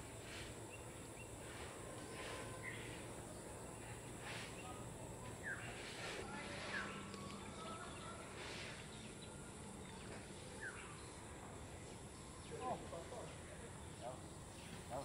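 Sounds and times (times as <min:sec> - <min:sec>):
faint lakeshore ambience: 0:00.0 - 0:15.0.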